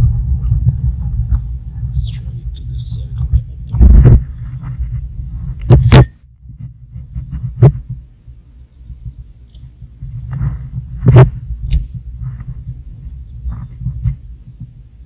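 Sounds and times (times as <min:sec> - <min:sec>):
low uneven rumble: 0:00.0 - 0:15.0.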